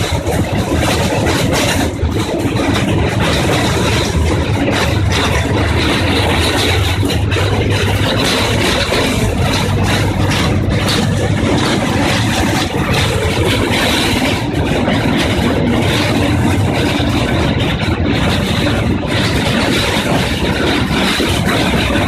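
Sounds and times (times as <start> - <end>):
trolley train engine running: 0.0 - 22.0.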